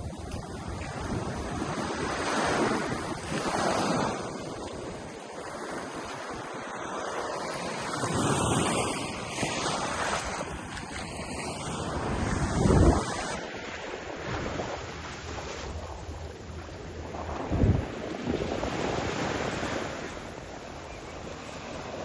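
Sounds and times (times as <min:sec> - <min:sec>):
wind buffeting microphone: 0:00.0 - 0:06.6, 0:07.5 - 0:22.0
small waves breaking on beach: 0:00.0 - 0:22.0.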